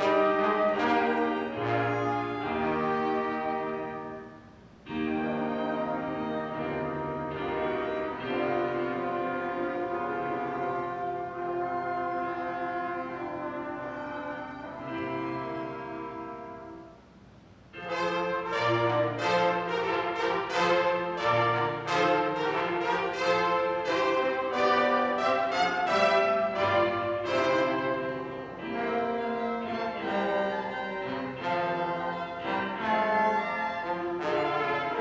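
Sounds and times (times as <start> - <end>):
orchestra playing: 0.0 - 35.0.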